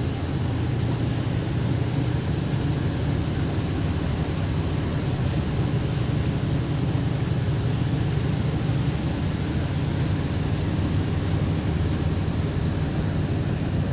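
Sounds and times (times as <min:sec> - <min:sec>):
road and wind noise: 0:00.0 - 0:13.9
truck engine drone: 0:00.0 - 0:13.9.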